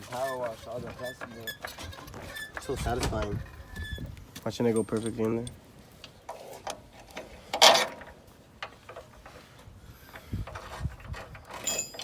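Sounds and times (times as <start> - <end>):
hand tools clicking and clanking: 0.0 - 3.8, 6.2 - 12.0.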